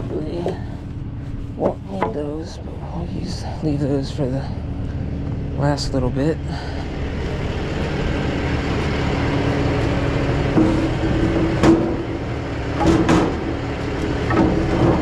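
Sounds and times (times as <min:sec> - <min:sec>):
steady hum: 0:00.0 - 0:15.0
truck engine running: 0:00.0 - 0:15.0.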